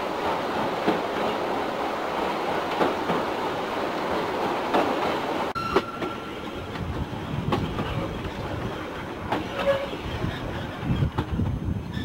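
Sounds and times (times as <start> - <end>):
train rumble: 0.0 - 12.0
wheels clacking over rail joints: 0.0 - 12.0.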